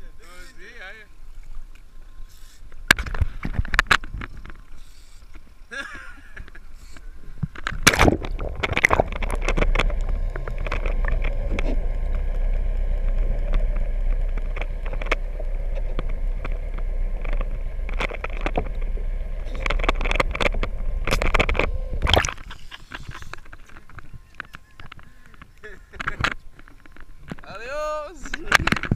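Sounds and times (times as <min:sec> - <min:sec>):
faint steady hum: 0:00.0 - 0:28.9
water splashing: 0:00.0 - 0:28.9
underwater gurgling: 0:00.2 - 0:27.5
muffled underwater rumble: 0:00.9 - 0:27.5.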